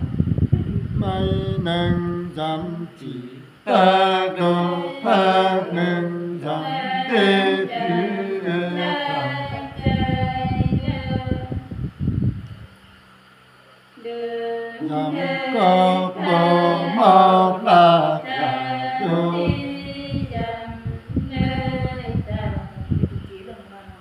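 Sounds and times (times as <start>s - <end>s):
man singing unaccompanied: 0.7s - 11.7s, 14.0s - 22.7s.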